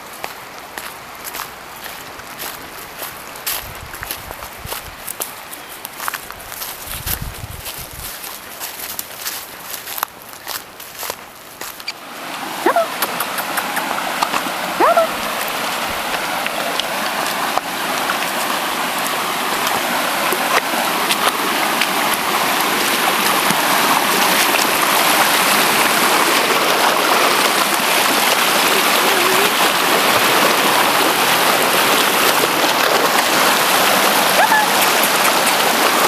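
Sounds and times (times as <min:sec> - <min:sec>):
creek rushing over stones: 0:00.0 - 0:36.0.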